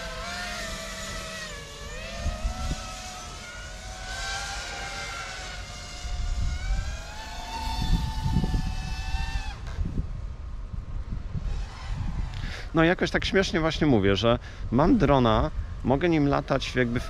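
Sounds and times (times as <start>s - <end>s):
drone motors whining: 0.0s - 14.1s, 16.2s - 17.0s.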